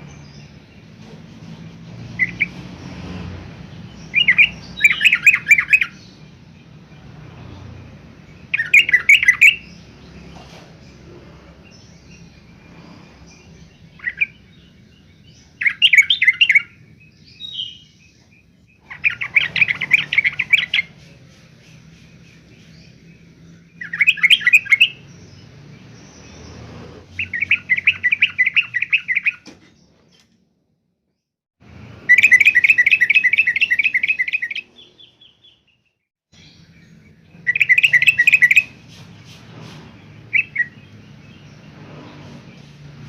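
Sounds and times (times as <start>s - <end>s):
bird chattering song: 0.0s - 3.0s, 3.6s - 30.3s, 32.0s - 43.0s.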